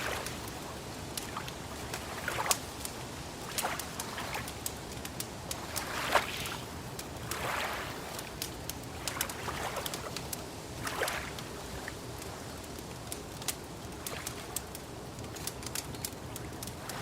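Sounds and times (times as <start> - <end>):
lake water lapping: 0.0 - 17.0
wood fire crackling: 0.0 - 17.0.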